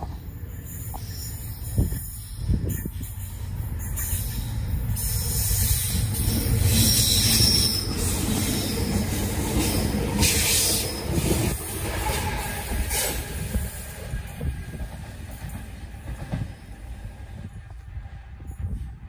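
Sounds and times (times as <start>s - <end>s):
diesel locomotive engine rumble: 0.0s - 19.0s
wheel and rail noise: 0.0s - 19.0s.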